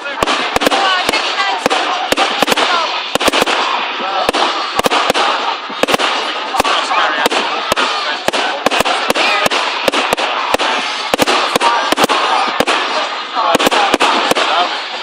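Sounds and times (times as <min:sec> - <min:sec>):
fireworks bangs: 0:00.0 - 0:15.0
fireworks crackle and hiss: 0:00.0 - 0:15.0.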